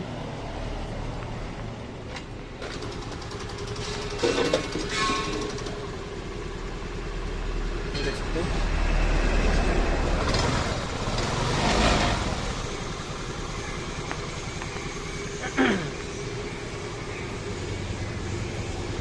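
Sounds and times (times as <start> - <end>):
scooter engine revving and idling: 0.0 - 19.0.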